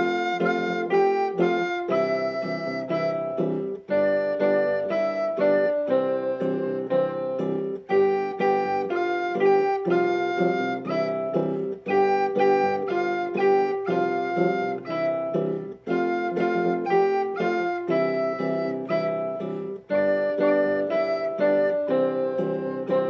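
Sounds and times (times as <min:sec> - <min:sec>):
recorder playing a melody: 0:00.0 - 0:23.0.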